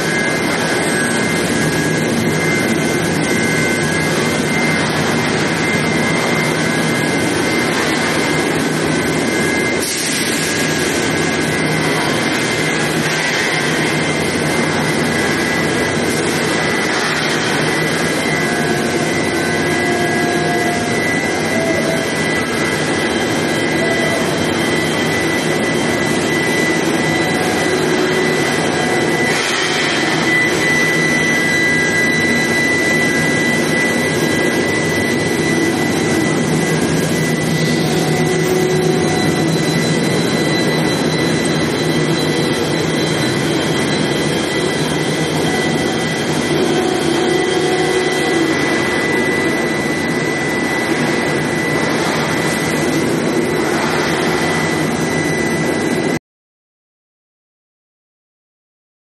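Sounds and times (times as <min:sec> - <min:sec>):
constant machinery noise: 0:00.0 - 0:56.2
high-pitched machine whine: 0:00.0 - 0:56.2.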